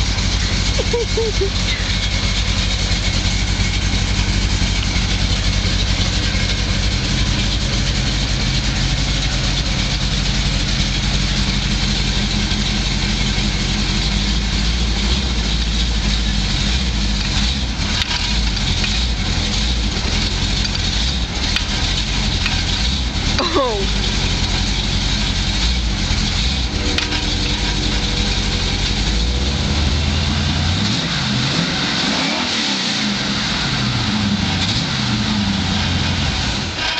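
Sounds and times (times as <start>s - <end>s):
pickup truck engine idling: 0.0s - 36.9s.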